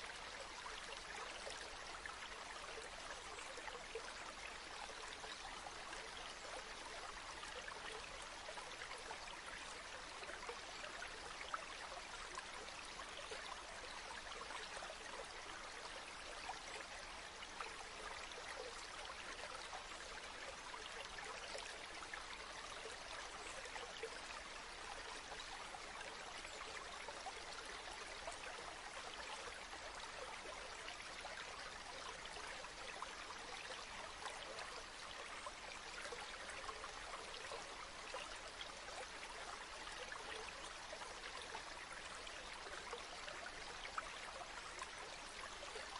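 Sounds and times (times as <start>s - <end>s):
river water flowing: 0.0s - 45.9s.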